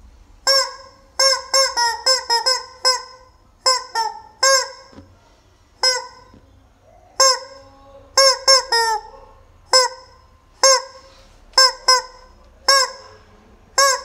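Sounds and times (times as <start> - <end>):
rubber chicken toy squawking: 0.4 - 5.1, 5.8 - 6.4, 7.2 - 14.0.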